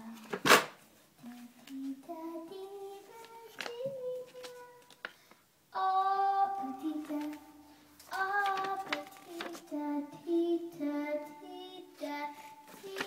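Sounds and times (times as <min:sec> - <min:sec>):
boy singing: 0:01.2 - 0:05.0, 0:05.7 - 0:13.0.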